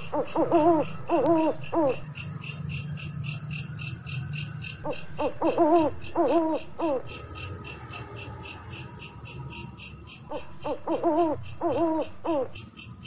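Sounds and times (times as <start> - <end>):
pitched animal calls: 0.0 - 2.6, 4.8 - 12.7
insect-like chirping: 0.0 - 13.0.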